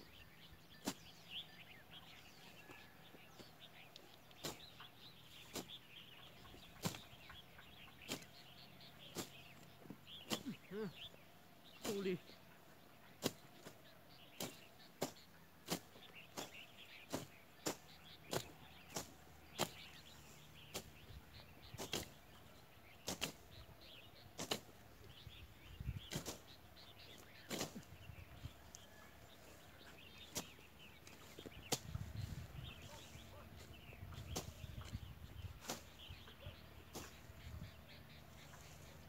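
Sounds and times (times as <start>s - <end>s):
birds chirping: 0.0s - 39.0s
blades swishing through grass: 0.4s - 39.0s.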